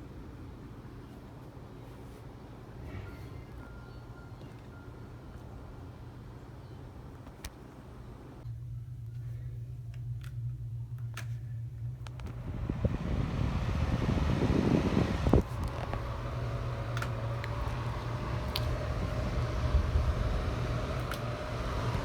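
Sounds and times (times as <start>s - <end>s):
ceiling fan humming: 0.0s - 22.0s.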